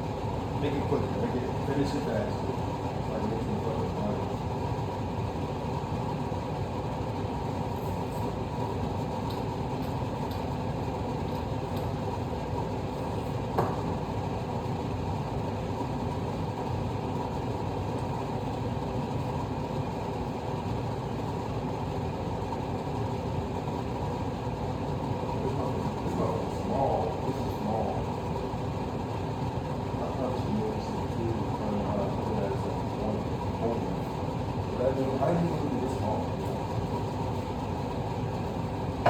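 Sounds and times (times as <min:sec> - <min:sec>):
exhaust fan whirring: 0:00.0 - 0:39.0.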